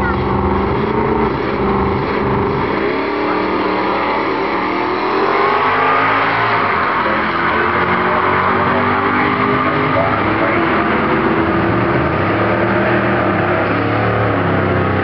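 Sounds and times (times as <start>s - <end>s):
drag racing car engines accelerating: 0.0s - 15.0s.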